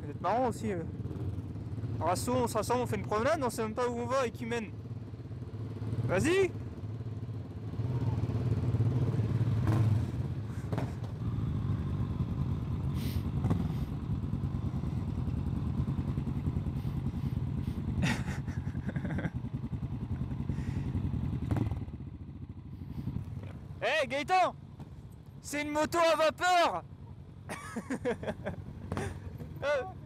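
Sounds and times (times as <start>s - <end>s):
motorcycle engines idling: 0.0s - 30.0s.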